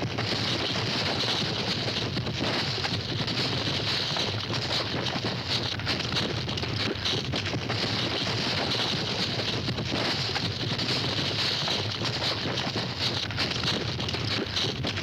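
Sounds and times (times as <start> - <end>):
cattle hooves stampeding: 0.0 - 15.0.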